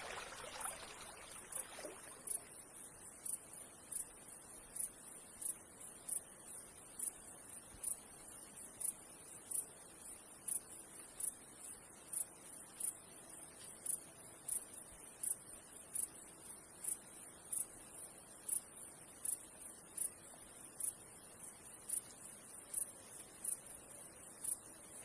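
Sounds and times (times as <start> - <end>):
running river water hiss: 0.0 - 25.0.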